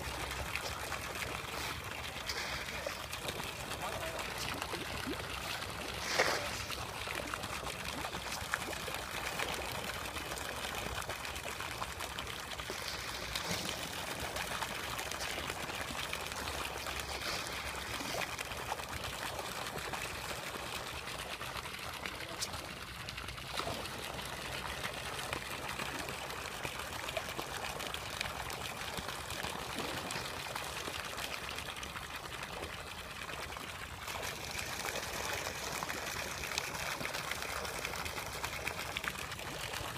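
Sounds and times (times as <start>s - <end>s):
water pouring into a pond: 0.0s - 39.9s.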